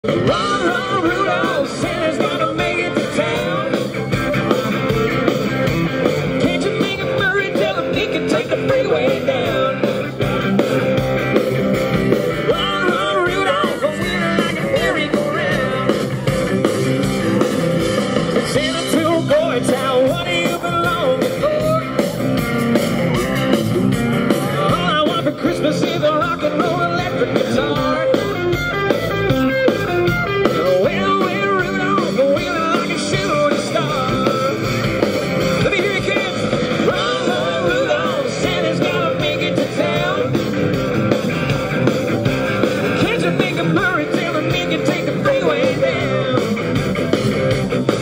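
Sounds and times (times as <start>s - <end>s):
rock music with singing and guitar: 0.0s - 48.0s.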